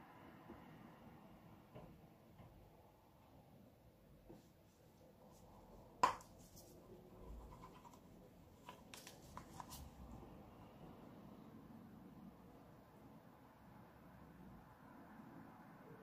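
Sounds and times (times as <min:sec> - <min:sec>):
faint room hiss: 0:00.0 - 0:16.0.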